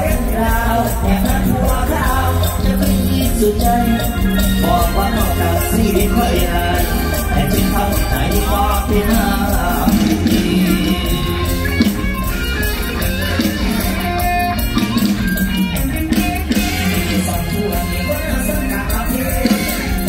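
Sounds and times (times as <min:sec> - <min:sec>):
guitar: 0:00.0 - 0:20.0
live stage band music: 0:00.0 - 0:20.0.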